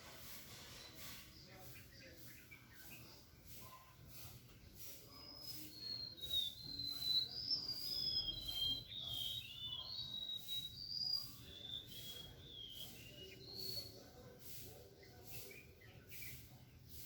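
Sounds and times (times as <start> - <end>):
songbird singing: 0.2 - 17.0.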